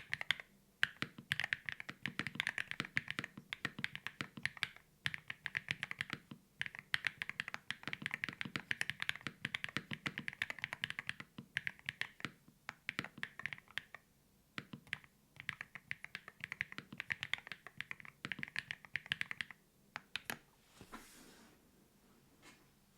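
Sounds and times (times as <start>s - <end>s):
mechanical keyboard typing: 0.0s - 14.0s, 14.6s - 20.4s.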